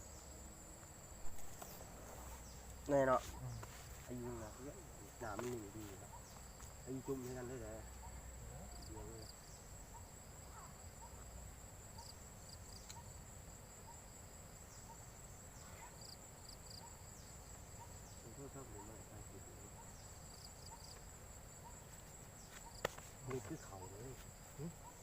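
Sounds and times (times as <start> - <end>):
high-pitched insect trill: 0.0 - 25.0.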